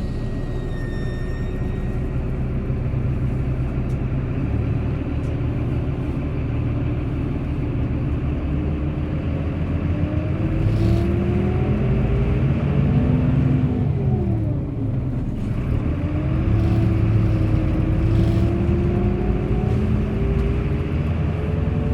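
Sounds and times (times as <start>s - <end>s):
bus engine rumbling: 0.0s - 21.9s.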